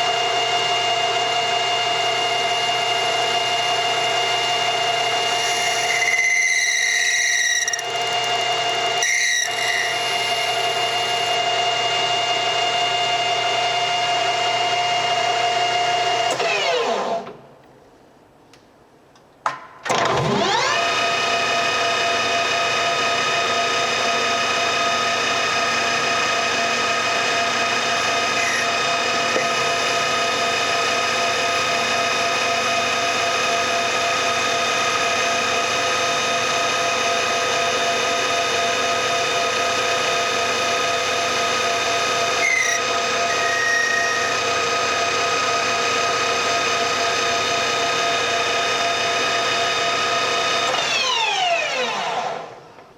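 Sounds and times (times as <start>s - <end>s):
lathe machine whine: 0.0s - 17.3s, 20.1s - 52.6s.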